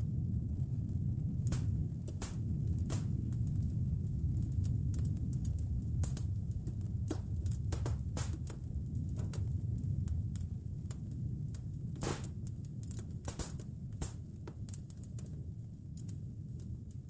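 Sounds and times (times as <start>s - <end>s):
low rumble: 0.0s - 14.4s
wood fire crackling: 0.0s - 17.0s.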